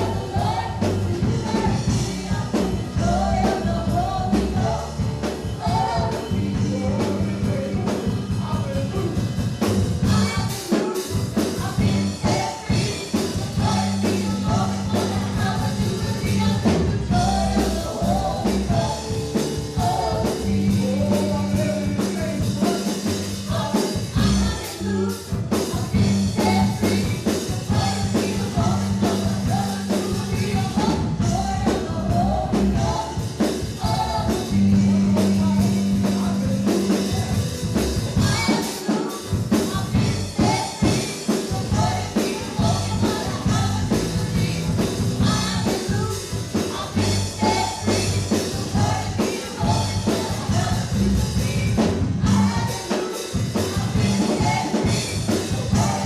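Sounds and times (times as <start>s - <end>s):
sustained bass: 0.0s - 10.5s, 11.6s - 38.6s, 39.3s - 52.8s, 53.4s - 56.0s
drums: 0.0s - 56.0s
voices singing: 0.0s - 56.0s.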